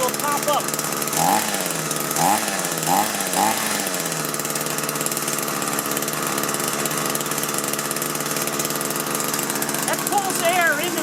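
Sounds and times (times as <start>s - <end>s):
two-stroke hedge trimmer engine: 0.0s - 11.0s.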